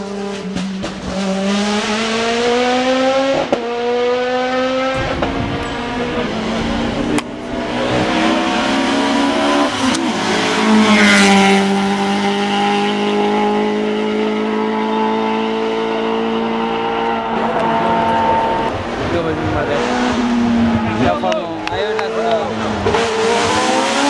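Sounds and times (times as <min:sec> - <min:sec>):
race car engine passing at speed: 0:00.0 - 0:24.0.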